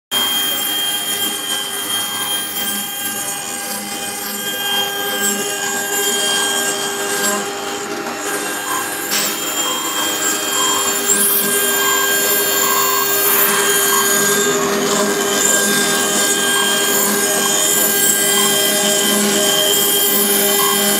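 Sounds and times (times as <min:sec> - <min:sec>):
spindle whine: 0:00.2 - 0:20.9
bit grinding stone: 0:00.9 - 0:20.9.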